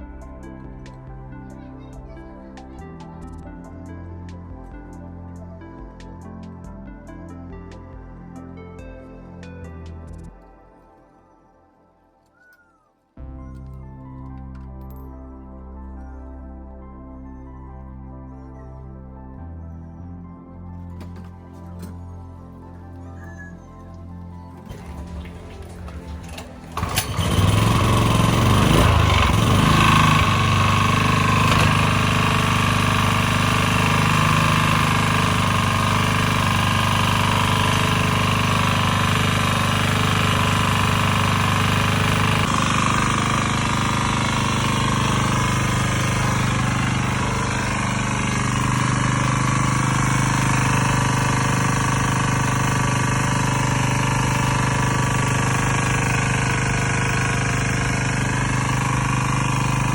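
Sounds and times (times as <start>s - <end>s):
generator engine running: 0.0s - 10.4s, 20.6s - 59.9s.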